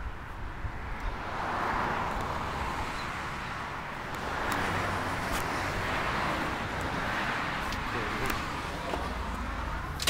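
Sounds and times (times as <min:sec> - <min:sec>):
car passing on street: 0:00.0 - 0:10.0.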